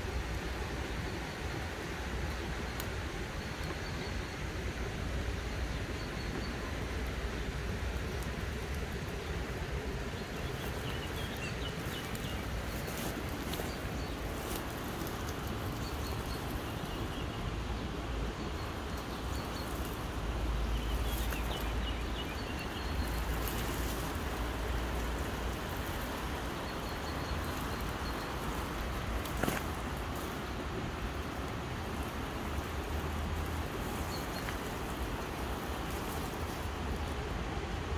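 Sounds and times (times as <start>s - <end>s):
dry leaves and twigs crackling: 5.7s - 37.9s.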